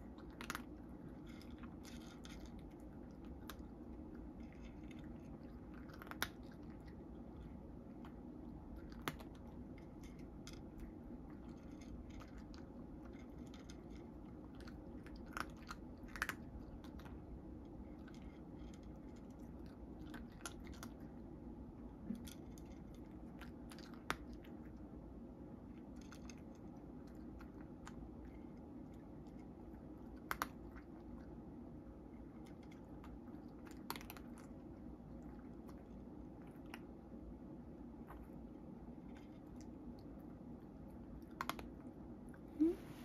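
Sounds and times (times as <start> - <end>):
cat chewing dry kibble: 0.0 - 42.5
faint low hum: 0.0 - 43.0.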